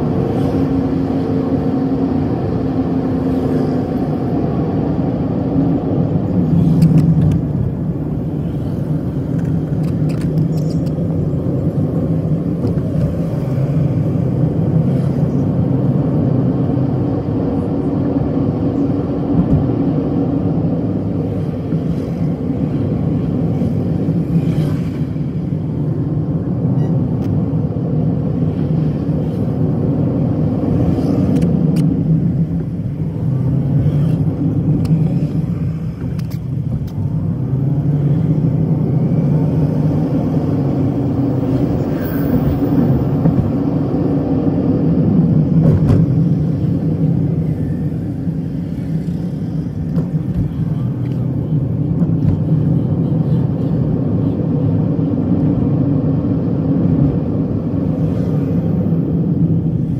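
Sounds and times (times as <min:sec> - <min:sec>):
car engine and road noise inside cabin: 0:00.0 - 0:59.9.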